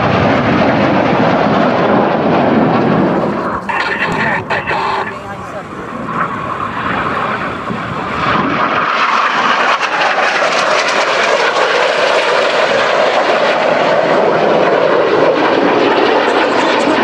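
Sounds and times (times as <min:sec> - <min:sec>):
jets flying past: 0:00.0 - 0:17.0.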